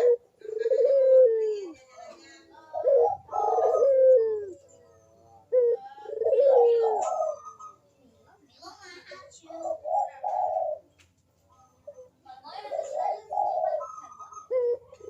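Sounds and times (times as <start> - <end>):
dove cooing: 0.0 - 7.9, 9.4 - 10.9, 11.8 - 15.0.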